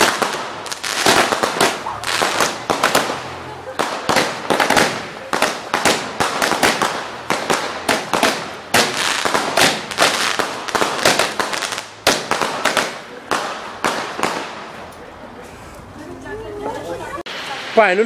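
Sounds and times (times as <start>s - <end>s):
fireworks crackling bangs: 0.0s - 15.1s, 17.3s - 18.0s.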